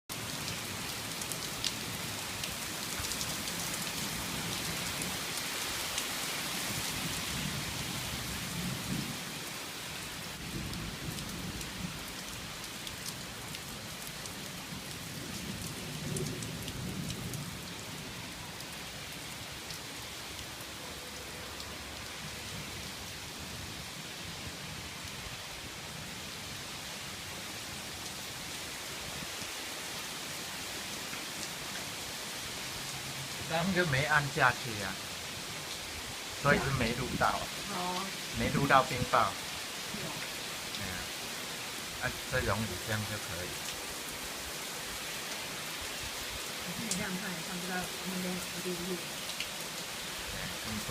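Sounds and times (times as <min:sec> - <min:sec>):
rain pattering: 0:00.1 - 0:50.9.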